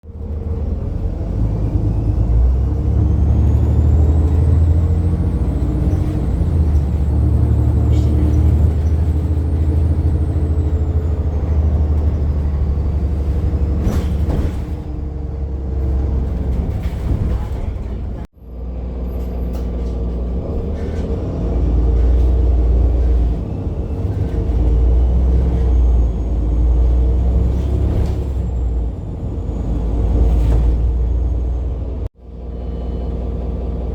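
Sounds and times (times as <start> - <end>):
bus diesel engine rumble: 0.0 - 33.9.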